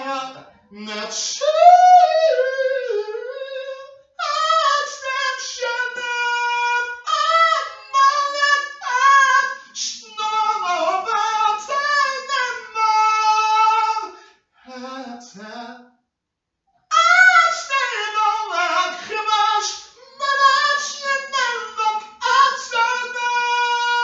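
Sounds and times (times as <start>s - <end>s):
man singing a cappella: 0.0s - 16.0s, 16.9s - 24.0s.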